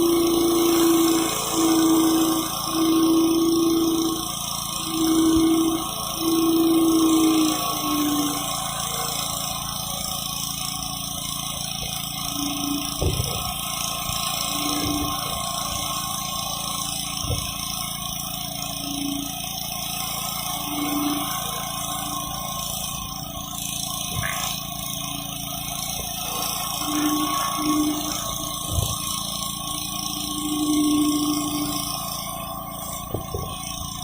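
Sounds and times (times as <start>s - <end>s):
pressure washer engine running: 0.0s - 34.0s
water jet hissing on concrete: 0.0s - 34.0s.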